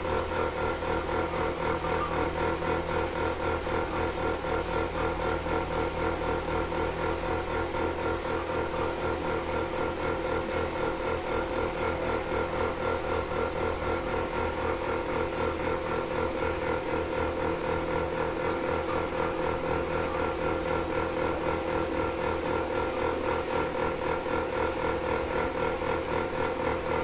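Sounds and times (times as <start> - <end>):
milking machine pulsing: 0.0 - 27.0.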